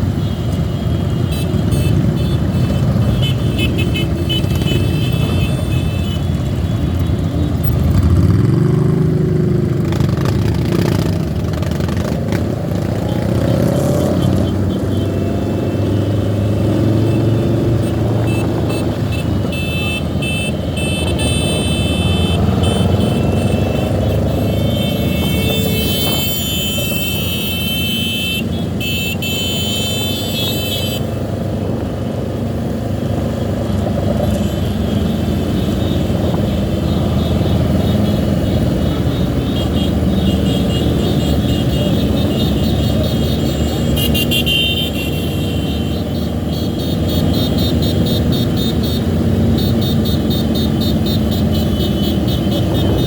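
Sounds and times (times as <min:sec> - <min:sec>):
traffic engines rumbling: 0:00.0 - 0:53.0.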